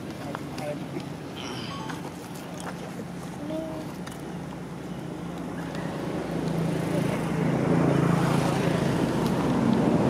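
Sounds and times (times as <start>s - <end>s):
rushing background noise: 0.0s - 10.0s.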